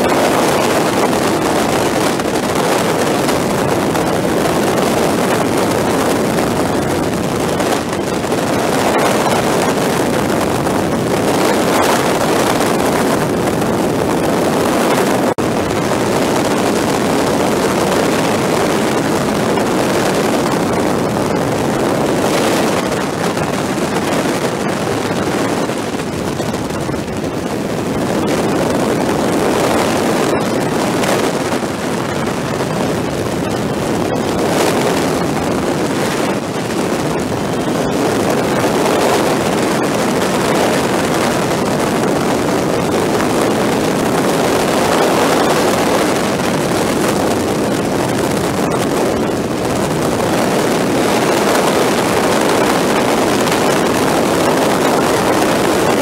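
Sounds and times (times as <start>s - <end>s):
road noise: 0.0s - 56.0s
wind on microphone: 0.0s - 56.0s.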